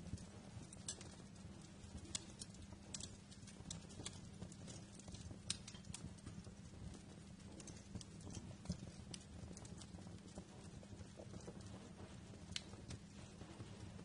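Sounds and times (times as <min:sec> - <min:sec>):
low rumble of burning: 0:00.0 - 0:14.0
wood fire crackling: 0:00.0 - 0:14.0.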